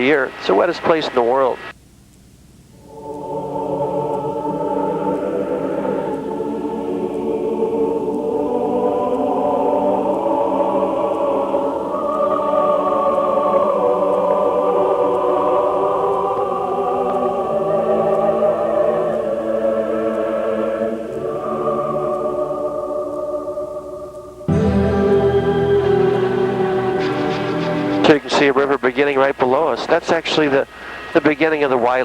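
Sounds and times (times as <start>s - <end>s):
slow sustained chords music: 2.7s - 28.7s.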